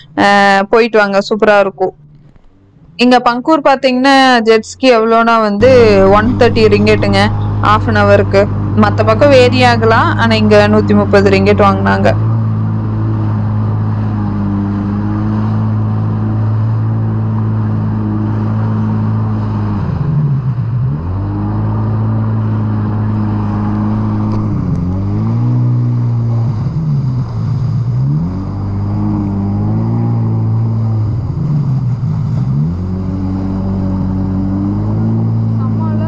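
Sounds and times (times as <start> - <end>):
jet ski engine: 0.0 - 36.0
water rushing along hull: 5.1 - 36.0.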